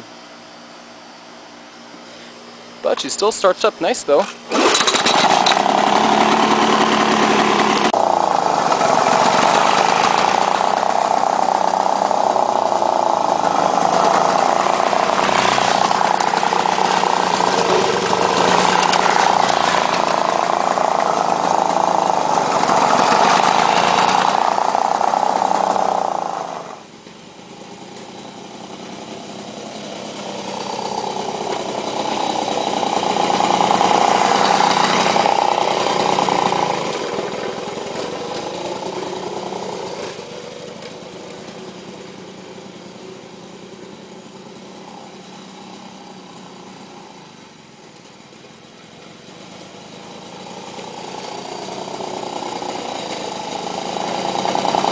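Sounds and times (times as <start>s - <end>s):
push mower engine mowing: 2.8s - 42.9s, 48.9s - 54.9s.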